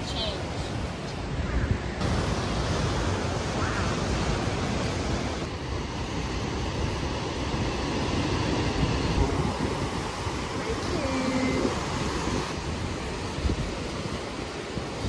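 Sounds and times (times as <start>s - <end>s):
surf washing on rocky shore: 0.0s - 15.0s
wind buffeting microphone: 0.0s - 15.0s.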